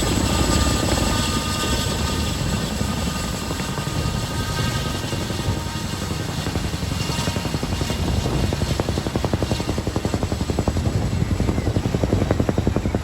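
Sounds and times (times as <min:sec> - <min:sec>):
helicopter rotor blades chopping: 0:00.0 - 0:13.0.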